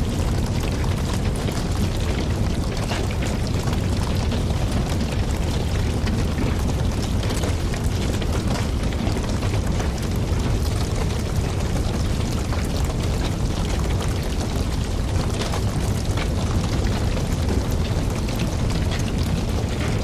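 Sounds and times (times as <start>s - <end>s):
campfire flames rushing: 0.0s - 20.0s
fire crackling and popping: 0.0s - 20.0s.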